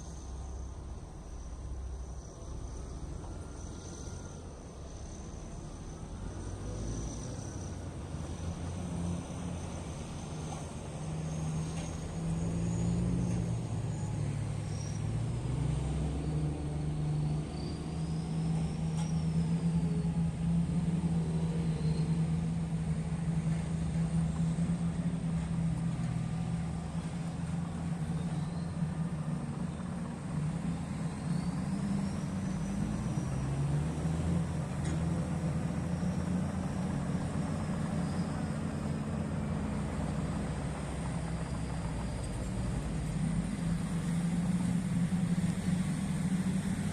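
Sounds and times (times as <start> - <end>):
diesel engine droning: 0.0 - 46.9
faint high whine: 0.0 - 46.9.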